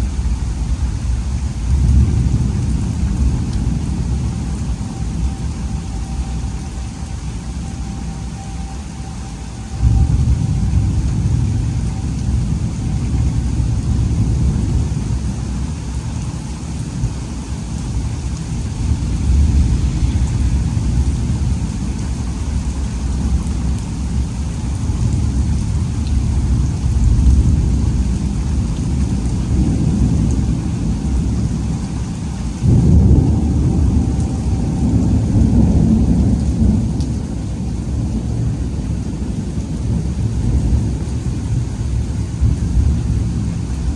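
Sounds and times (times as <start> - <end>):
steady rain: 0.0 - 43.9
thunder rumbling: 0.0 - 43.9.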